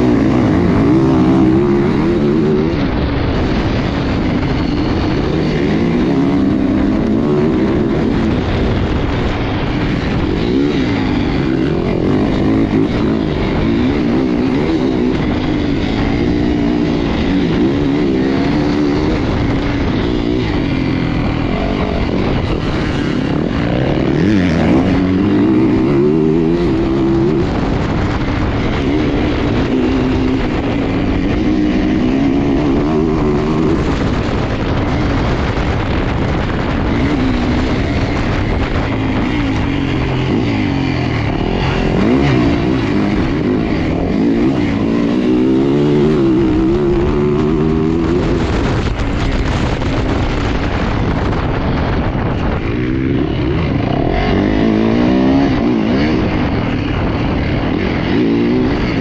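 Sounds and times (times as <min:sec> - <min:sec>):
dirt bike engine racing: 0:00.0 - 0:59.0.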